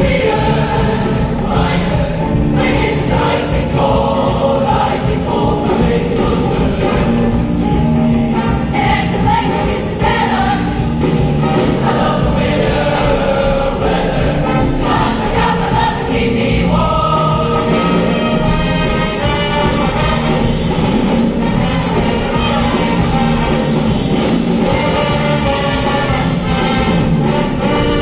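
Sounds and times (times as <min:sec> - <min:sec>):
choir singing: 0:00.0 - 0:28.0
instrumental accompaniment: 0:00.0 - 0:28.0.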